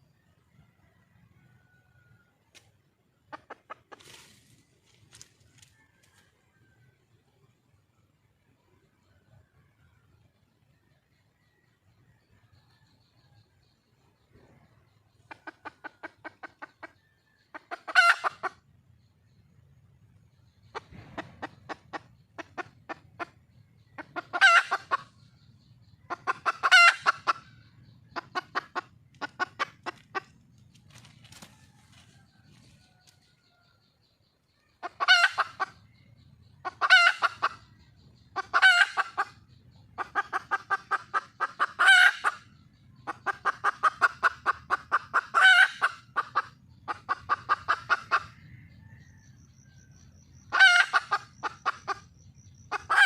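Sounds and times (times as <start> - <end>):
hen clucking and cackling: 0.0 - 53.0.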